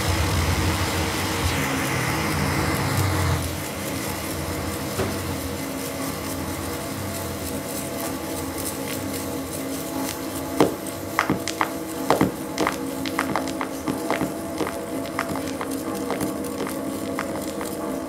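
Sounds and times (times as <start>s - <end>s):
ambient drone of held tones: 0.0s - 18.0s
hiss: 0.0s - 18.0s.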